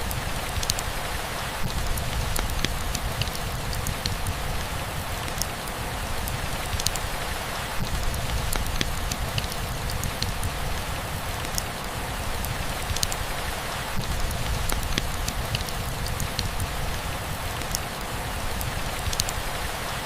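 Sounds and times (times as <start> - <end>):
rain hissing: 0.0 - 20.0
raindrops ticking: 0.0 - 20.0.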